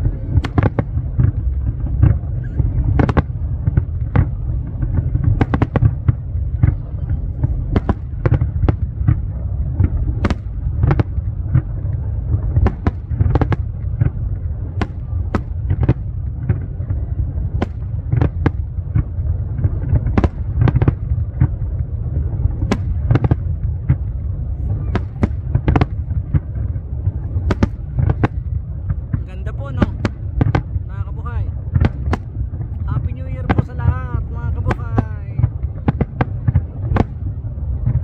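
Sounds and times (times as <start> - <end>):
firework bangs and cracks: 0.0 - 38.0
low rumble: 0.0 - 38.0.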